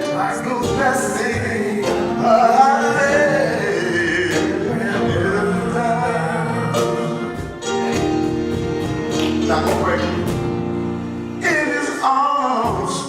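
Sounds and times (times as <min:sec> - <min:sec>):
guitar accompaniment: 0:00.0 - 0:13.0.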